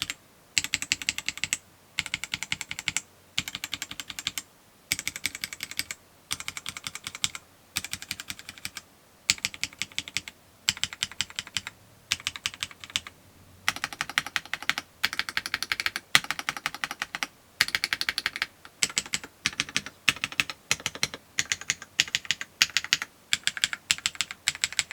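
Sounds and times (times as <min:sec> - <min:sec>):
mechanical keyboard typing: 0:00.0 - 0:24.9.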